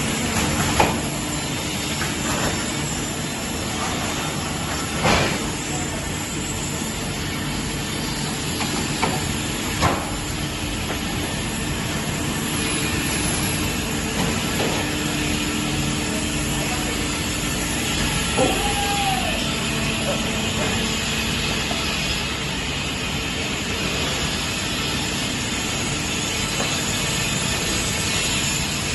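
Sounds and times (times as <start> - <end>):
circular saw machine humming: 0.0 - 28.9.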